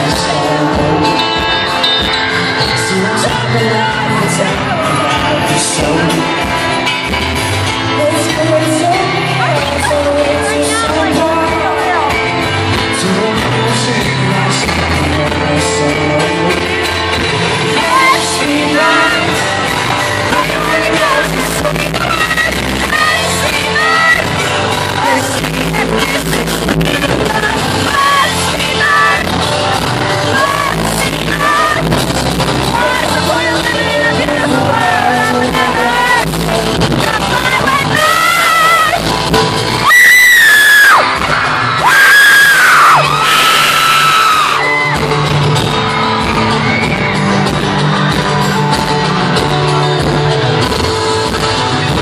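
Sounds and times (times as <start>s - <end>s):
live pop song: 0.0s - 52.0s.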